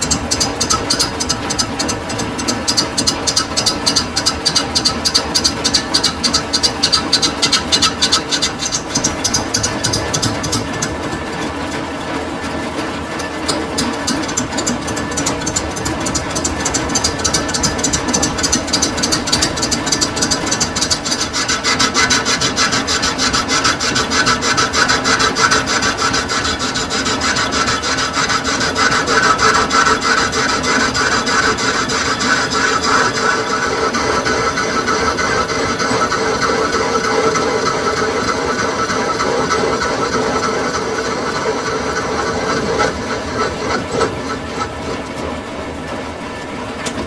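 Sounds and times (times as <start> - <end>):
metal lathe cutting tool scraping: 0.0 - 46.0.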